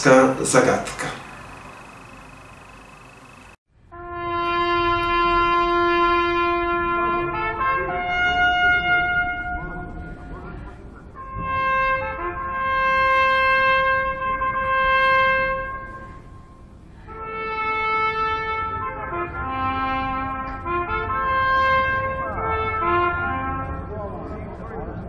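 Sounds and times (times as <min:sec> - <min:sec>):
slow brass melody: 0:03.9 - 0:24.0.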